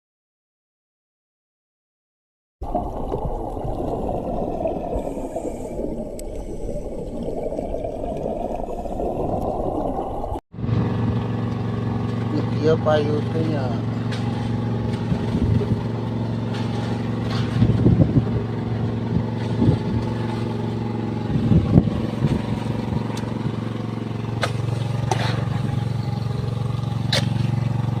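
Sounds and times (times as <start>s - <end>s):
boat engine running: 2.6s - 28.0s.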